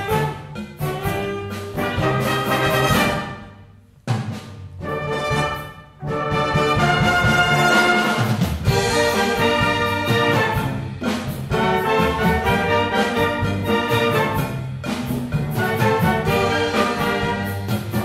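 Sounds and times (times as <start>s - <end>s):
wind band playing: 0.0s - 3.9s, 4.8s - 18.0s.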